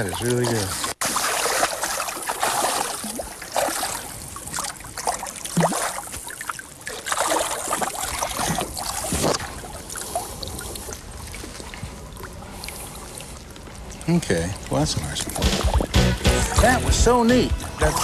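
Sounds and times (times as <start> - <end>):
fish thrashing and splashing water: 0.0 - 14.0, 15.0 - 16.6.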